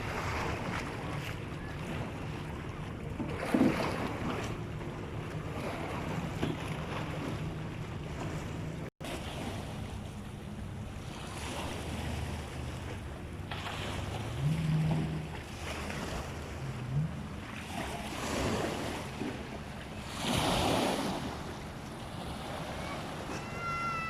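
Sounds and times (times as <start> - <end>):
sea water washing: 0.0 - 24.0.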